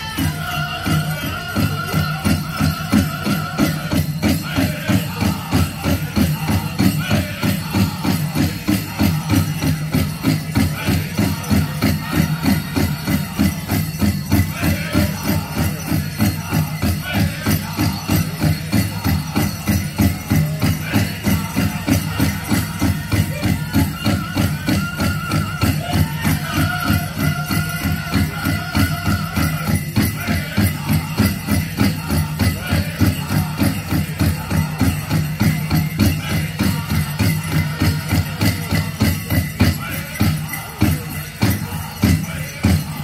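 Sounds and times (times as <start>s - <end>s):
jingling bells: 0.0s - 43.0s
people singing: 0.0s - 43.0s
steady drumbeat: 0.0s - 43.0s.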